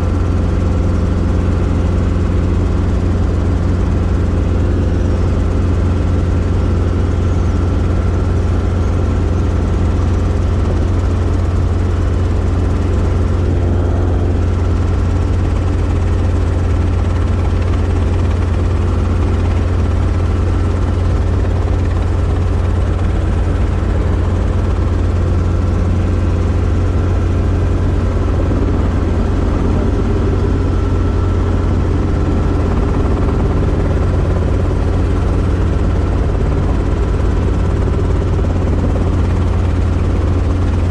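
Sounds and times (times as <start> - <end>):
helicopter drone: 0.0 - 40.9.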